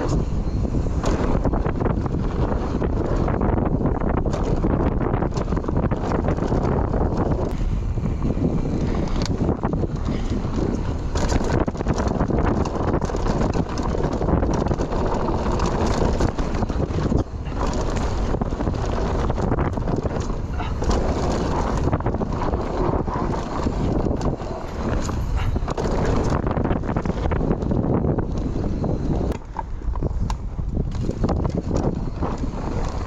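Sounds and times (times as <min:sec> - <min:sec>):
bike knocks and rattles: 0:00.0 - 0:33.0
bike tyre noise: 0:00.0 - 0:33.0
wind buffeting camera: 0:00.0 - 0:33.0.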